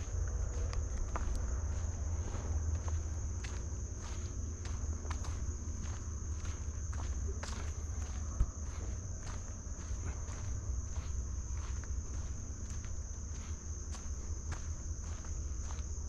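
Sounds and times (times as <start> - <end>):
footsteps on woodland trail: 0.0 - 16.0
high-pitched insect chorus: 0.0 - 16.0.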